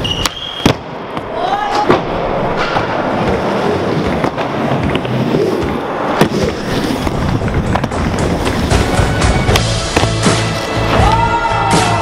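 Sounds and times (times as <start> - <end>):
skateboard wheels rolling on plywood: 1.1 - 11.4.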